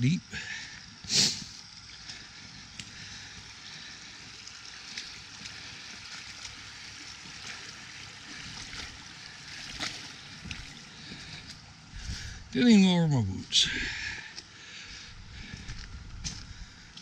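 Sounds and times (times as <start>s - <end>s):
floodwater rushing: 0.0s - 14.8s.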